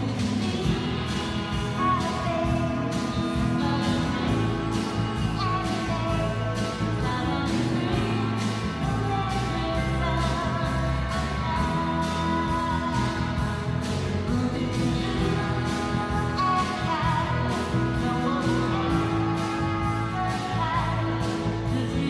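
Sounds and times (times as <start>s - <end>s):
cymbals keeping a beat: 0.0s - 22.0s
live rock band playing: 0.0s - 22.0s
person singing: 0.0s - 22.0s.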